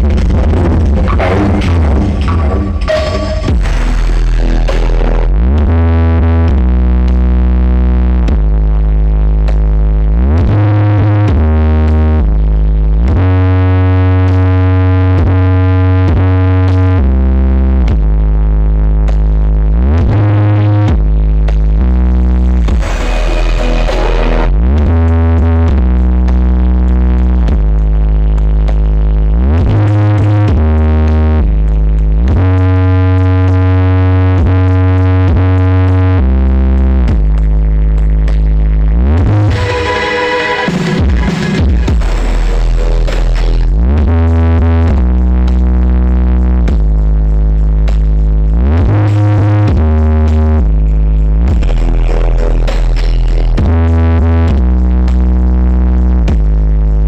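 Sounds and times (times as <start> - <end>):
deep synth bass notes: 0.0 - 57.0
loud electronic music: 0.0 - 57.0.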